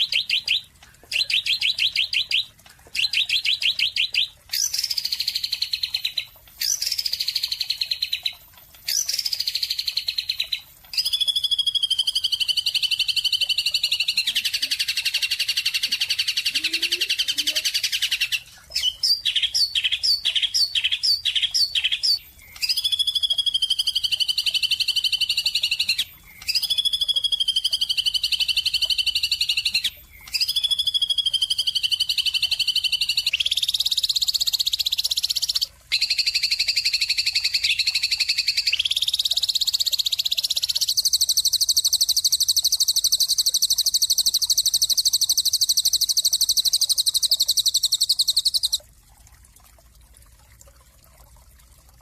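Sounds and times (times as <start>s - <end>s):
songbird trilling: 0.0s - 8.3s, 8.9s - 48.8s.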